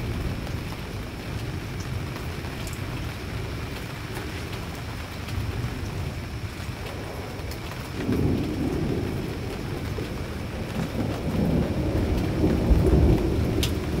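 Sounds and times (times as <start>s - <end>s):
falling rain: 0.0s - 14.0s
thunder rumbling: 0.0s - 14.0s.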